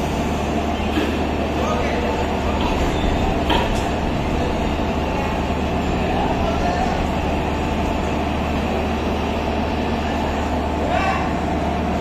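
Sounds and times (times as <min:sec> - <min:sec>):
cooling blowers running: 0:00.0 - 0:12.0
electric locomotive humming: 0:00.0 - 0:12.0.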